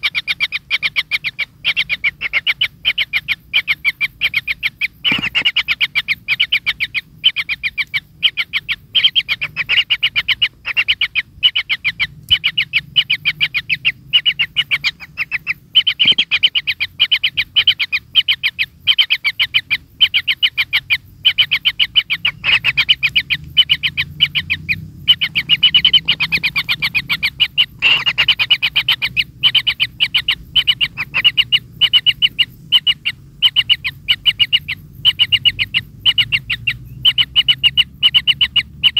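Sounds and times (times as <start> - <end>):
kingfishers chirping: 0.0 - 38.9.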